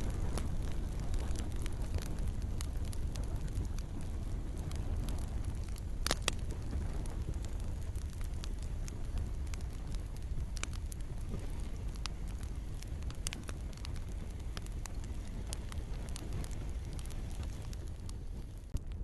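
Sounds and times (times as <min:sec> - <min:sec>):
campfire crackling and popping: 0:00.0 - 0:19.0
gentle rain: 0:00.0 - 0:19.0.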